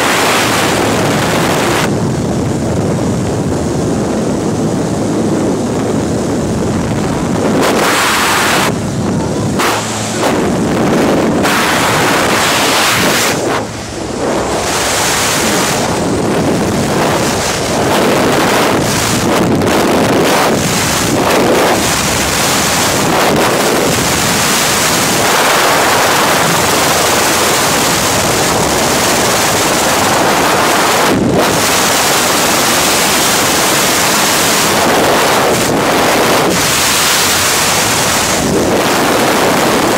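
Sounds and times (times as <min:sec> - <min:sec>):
wind roaring over microphone: 0:00.0 - 0:39.9.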